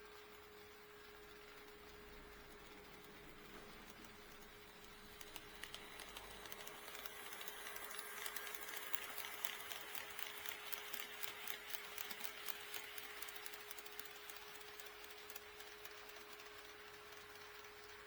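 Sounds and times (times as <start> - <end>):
model train wheel clicks: 0.0 - 18.0.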